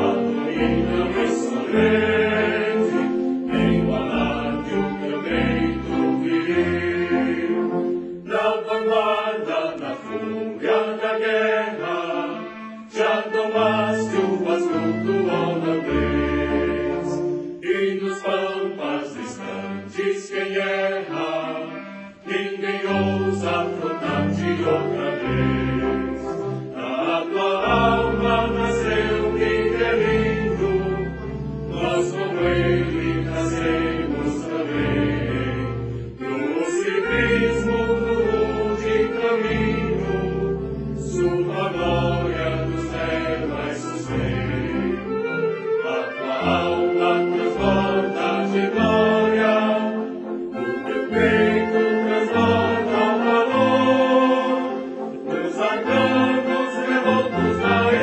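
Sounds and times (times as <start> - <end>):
choir singing with orchestra: 0.0 - 58.0.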